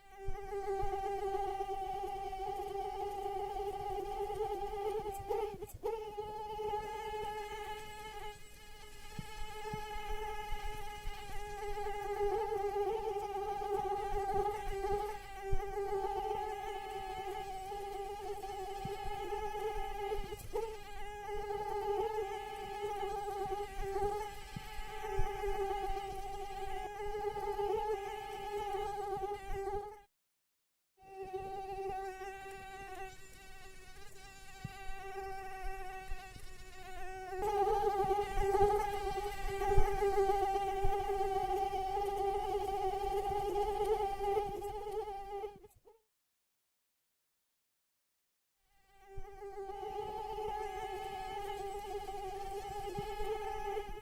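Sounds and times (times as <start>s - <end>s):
mosquito wings whining: 0.0s - 30.0s, 31.1s - 46.0s, 48.9s - 54.0s.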